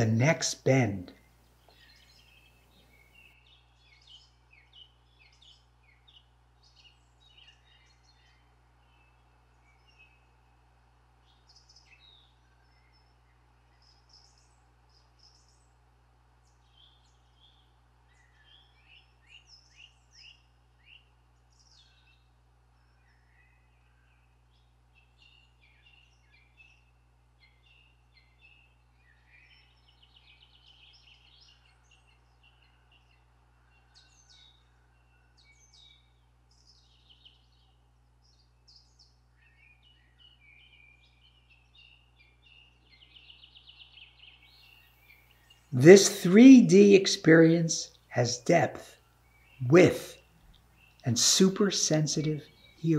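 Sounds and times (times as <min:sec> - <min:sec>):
small birds chirping and trilling: 0:00.0 - 0:52.9.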